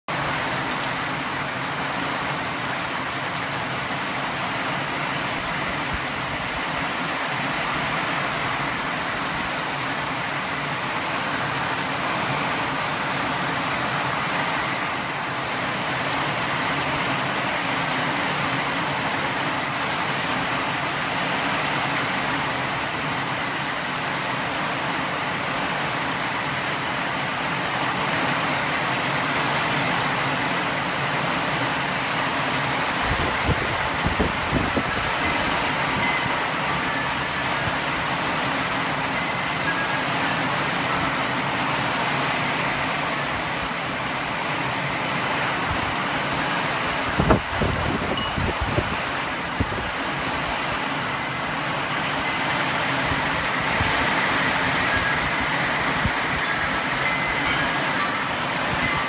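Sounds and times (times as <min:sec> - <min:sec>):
steady rain falling: 0:00.1 - 0:59.0.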